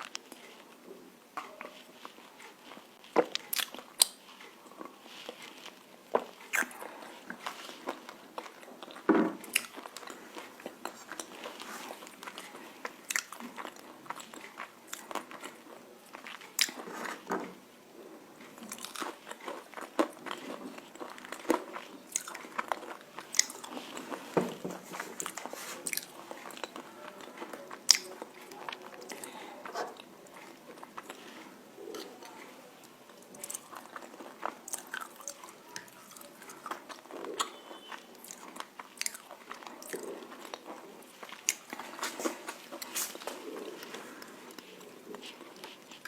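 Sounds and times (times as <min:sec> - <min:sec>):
soft chewing: 0:00.0 - 0:46.0.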